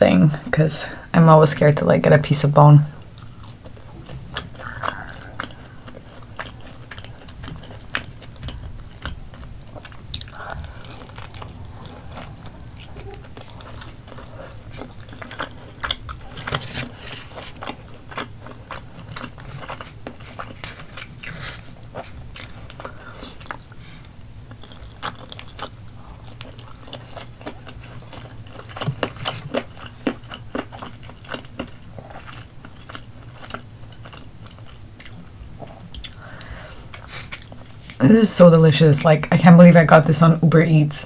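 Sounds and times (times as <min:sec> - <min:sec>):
chewing and biting chicken: 0:03.0 - 0:38.0.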